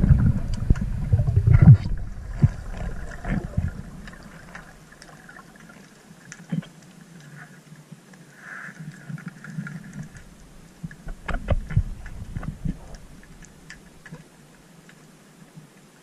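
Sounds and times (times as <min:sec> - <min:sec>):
water rushing underwater: 0:00.0 - 0:07.1, 0:08.8 - 0:15.1
small clicks underwater: 0:00.0 - 0:16.0.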